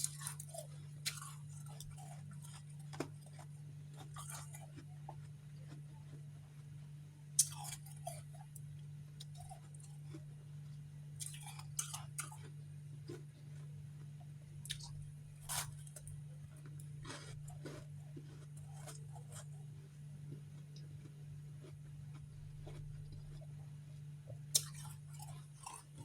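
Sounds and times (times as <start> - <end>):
crunching on frozen frost chunks: 0.0 - 6.8, 7.4 - 23.6, 24.5 - 26.0
low electrical hum: 0.0 - 26.0.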